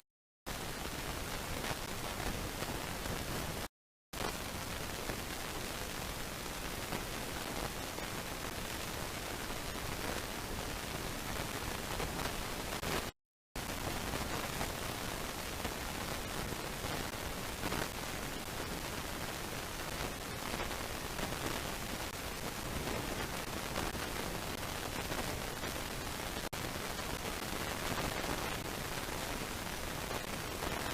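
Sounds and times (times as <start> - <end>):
microphone background hiss: 0.5 - 30.9.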